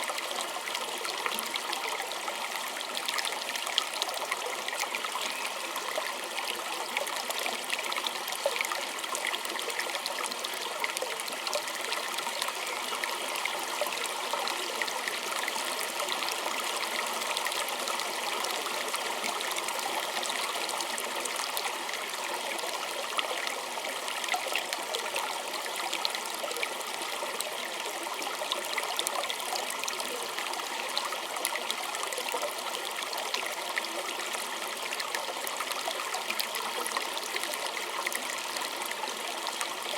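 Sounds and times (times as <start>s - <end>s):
small stream babbling: 0.0s - 39.9s.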